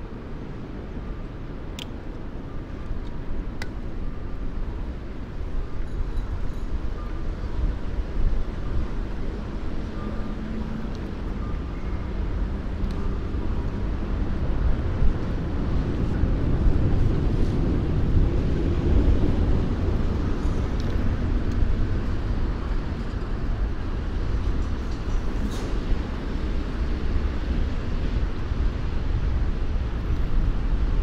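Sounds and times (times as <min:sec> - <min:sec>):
road and traffic noise: 0:00.0 - 0:31.0
wind buffeting microphone: 0:00.0 - 0:31.0.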